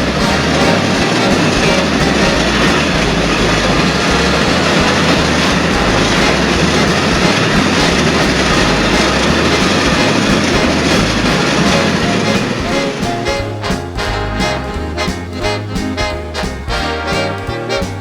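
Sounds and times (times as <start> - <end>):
train rolling noise: 0.0 - 18.0.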